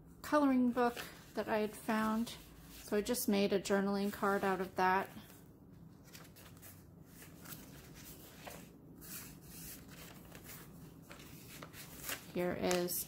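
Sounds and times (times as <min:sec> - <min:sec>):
paper pages rustling: 0:00.7 - 0:03.1, 0:04.0 - 0:13.0.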